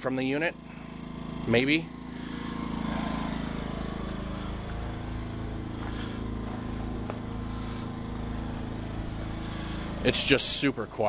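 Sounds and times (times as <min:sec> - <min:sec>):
generator engine idling: 0:00.0 - 0:11.0.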